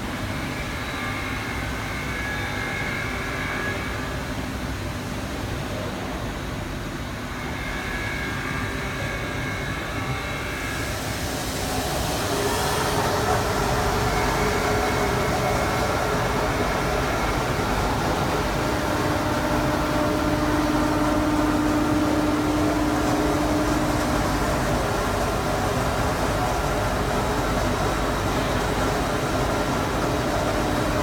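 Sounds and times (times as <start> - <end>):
grinding machine whining: 0.1 - 31.0.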